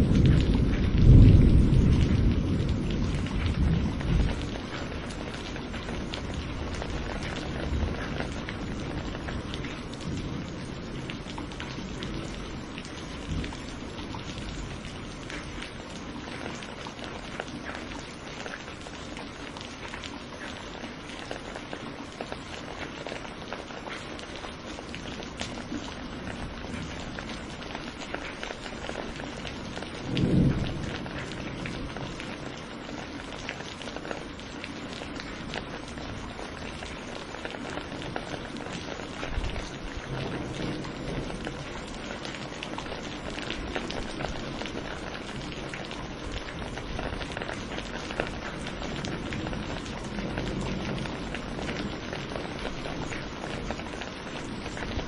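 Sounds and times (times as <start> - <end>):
low rumble of thunder: 0.0 - 20.1, 24.5 - 55.0
raindrop ticks: 0.0 - 55.0
steady rain: 0.0 - 55.0.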